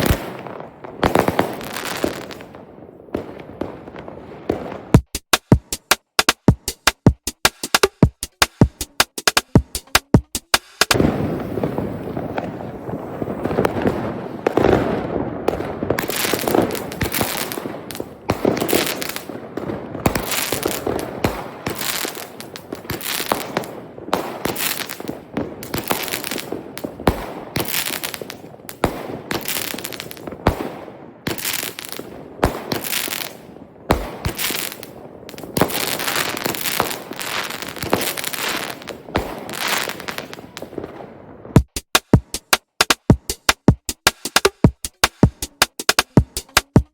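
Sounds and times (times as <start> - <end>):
fireworks crackling: 0.0 - 6.4, 7.5 - 41.7
fireworks sharp bangs: 0.0 - 43.3.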